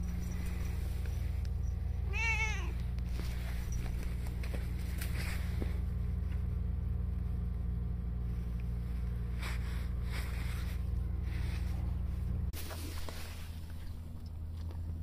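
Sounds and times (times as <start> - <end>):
faint rustles: 0.0 - 6.6, 8.3 - 14.8
low hum: 0.0 - 15.0.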